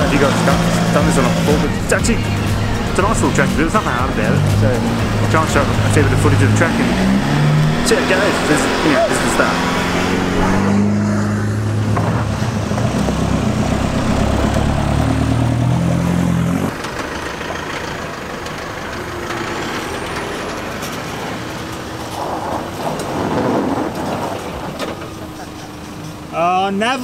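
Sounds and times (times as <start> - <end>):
rushing noise: 0.0 - 25.6
diesel engines running: 0.0 - 27.0.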